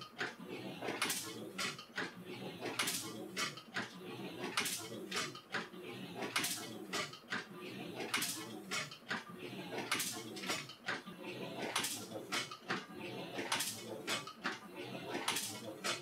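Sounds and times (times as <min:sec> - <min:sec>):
printing press metallic clacks: 0:00.0 - 0:11.0, 0:11.6 - 0:16.0
mechanical clatter: 0:00.0 - 0:16.0.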